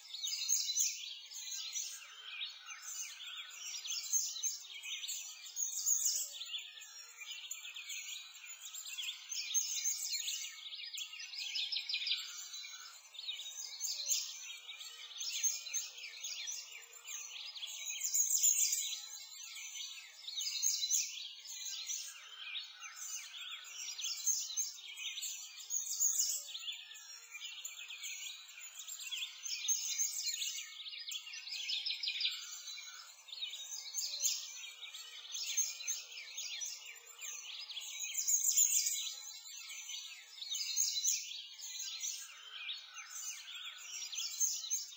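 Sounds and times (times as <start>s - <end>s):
small birds chirping and twittering: 0.0s - 44.9s.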